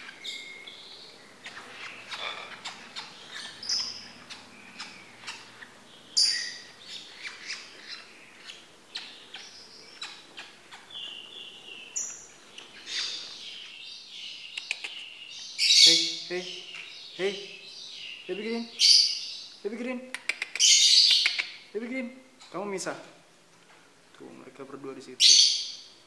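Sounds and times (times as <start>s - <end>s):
lovebirds chirping and squawking: 0.0s - 21.8s, 25.2s - 26.0s.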